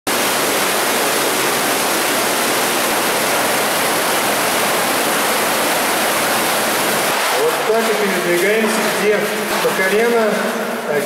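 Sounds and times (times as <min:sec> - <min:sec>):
water rushing down a sewer: 0:00.1 - 0:11.0.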